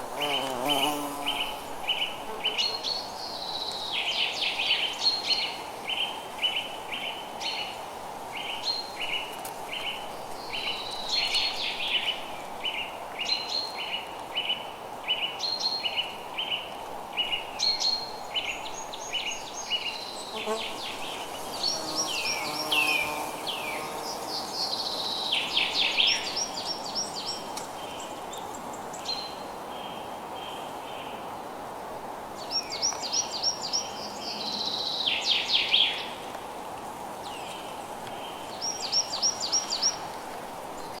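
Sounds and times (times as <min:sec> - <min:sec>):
songbird singing: 0:00.0 - 0:07.8, 0:08.4 - 0:31.2, 0:32.4 - 0:36.2, 0:37.2 - 0:40.1
steady rain hiss: 0:00.0 - 0:41.0.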